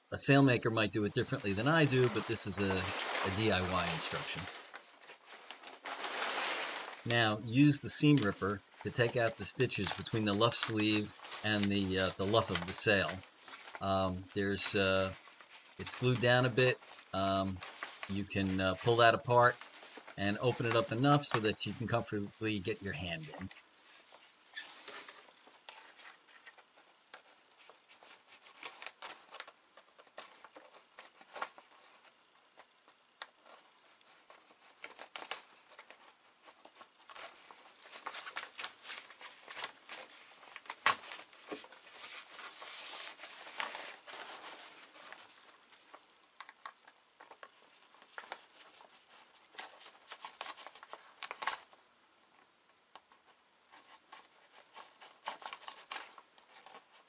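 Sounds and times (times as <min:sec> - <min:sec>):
sailcloth crinkling: 0:00.6 - 0:51.8.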